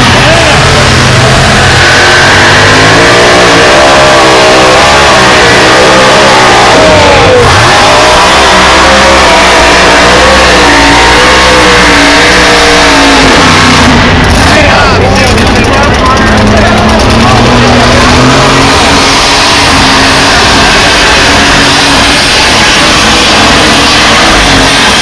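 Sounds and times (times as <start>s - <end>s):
pulling tractor engine at full throttle: 0.0s - 25.0s.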